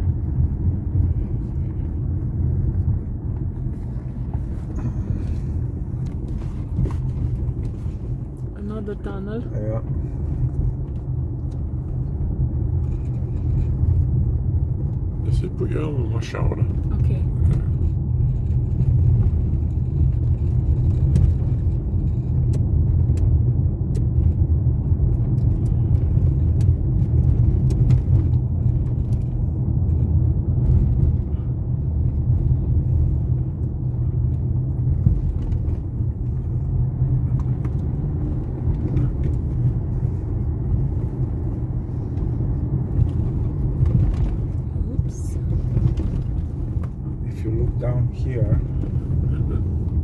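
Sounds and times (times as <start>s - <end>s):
car interior engine and tyre rumble: 0.0s - 50.0s.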